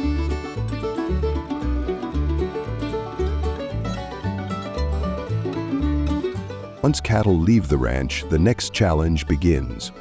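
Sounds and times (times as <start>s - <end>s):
plucked strings country music: 0.0s - 10.0s.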